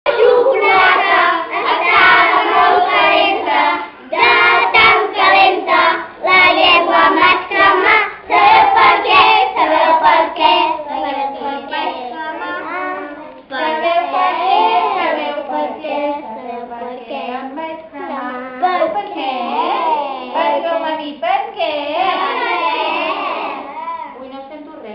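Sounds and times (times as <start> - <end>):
young children singing: 0.1 - 20.8, 22.0 - 24.2.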